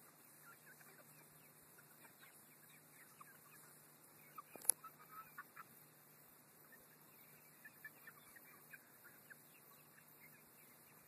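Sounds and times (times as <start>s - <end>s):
young chickens calling: 0.0s - 11.0s.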